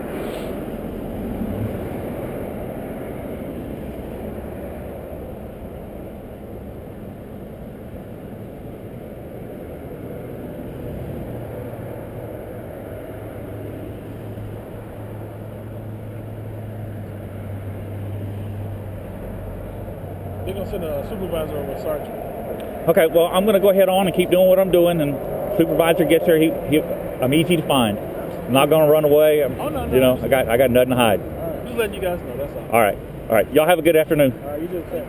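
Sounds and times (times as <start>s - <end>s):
low engine hum: 0.0s - 35.0s
street traffic rumbling: 0.0s - 35.0s
car engine idling: 0.5s - 35.0s.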